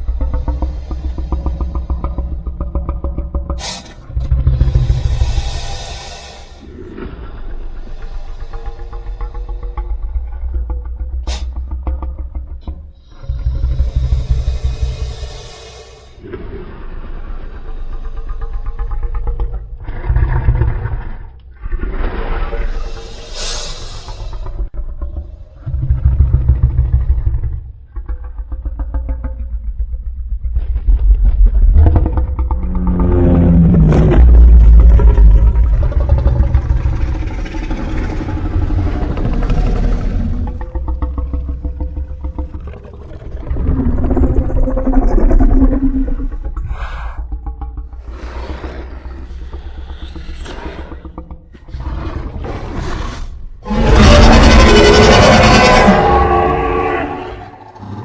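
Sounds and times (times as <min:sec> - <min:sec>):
rattling dinosaur growl: 0:00.0 - 0:58.0.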